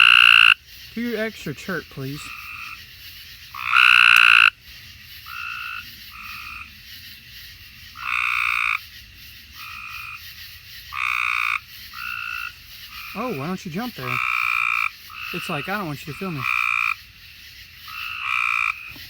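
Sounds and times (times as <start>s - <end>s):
tree frogs trilling: 0.0s - 19.0s.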